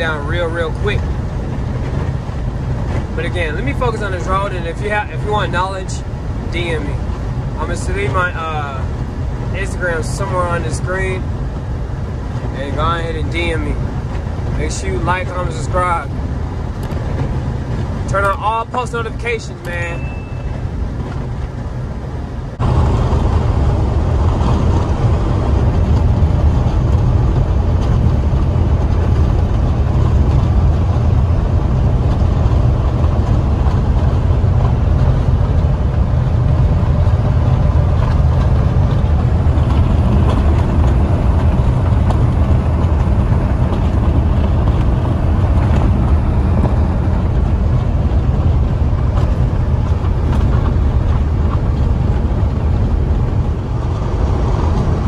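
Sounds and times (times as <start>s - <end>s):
truck engine and road noise: 0.0s - 55.0s.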